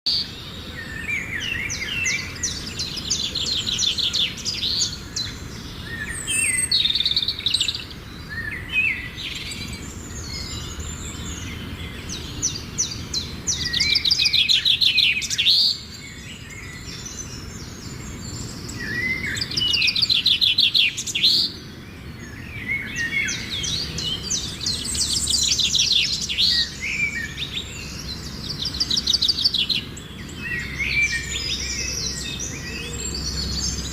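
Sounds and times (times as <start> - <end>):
songbirds trilling and chirping: 0.1 - 33.9.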